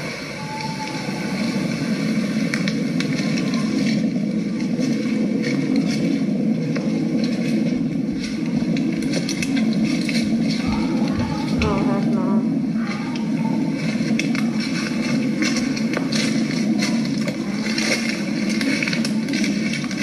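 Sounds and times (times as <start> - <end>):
faint clicks and crackles: 0.0 - 20.0
low rumbling hiss: 0.0 - 20.0.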